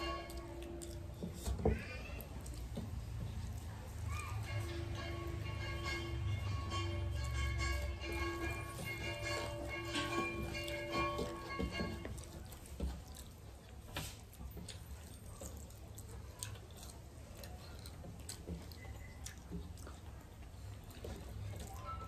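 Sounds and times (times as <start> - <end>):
hands mixing food on metal plates: 0.0 - 22.0
wet chewing: 0.0 - 22.0.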